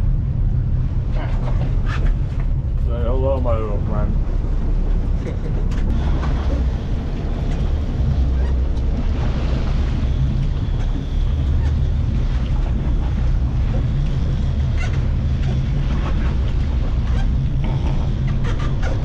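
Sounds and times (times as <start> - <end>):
boat engines rumbling: 0.0 - 19.0
wind on microphone: 0.0 - 19.0.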